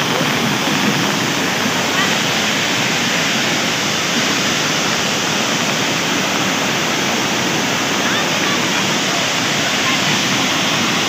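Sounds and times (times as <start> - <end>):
rushing water pouring into a drain: 0.0 - 11.0.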